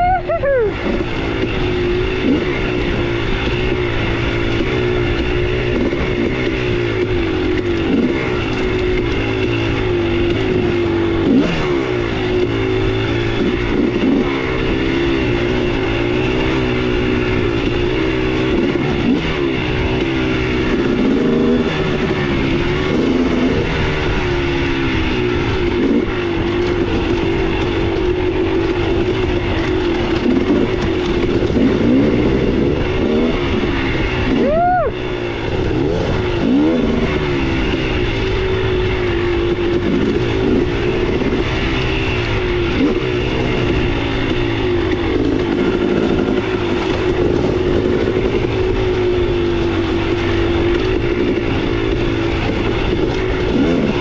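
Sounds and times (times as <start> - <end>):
dirt bike engine revving: 0.0 - 54.0
wind rush on microphone: 0.0 - 54.0.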